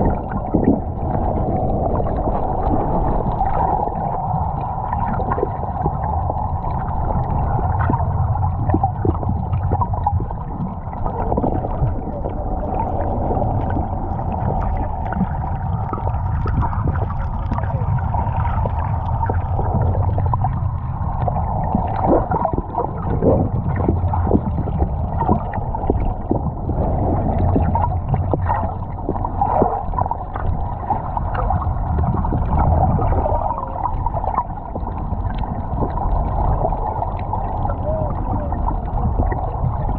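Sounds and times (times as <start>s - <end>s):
faint clicks and crackles: 0.0s - 39.9s
low underwater rumble: 0.0s - 39.9s.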